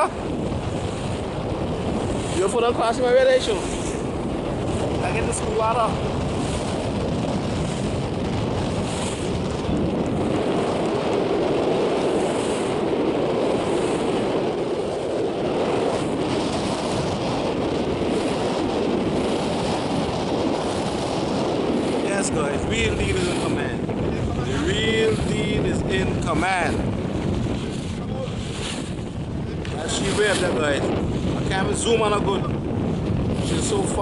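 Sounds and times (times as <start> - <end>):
rushing water: 0.0 - 34.0
wind buffeting microphone: 0.0 - 34.0.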